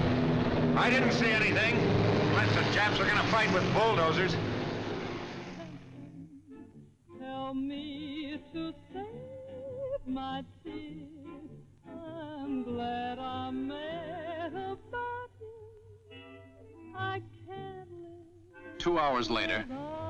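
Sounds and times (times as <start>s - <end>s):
slow melody with vibrato: 0.0s - 20.0s.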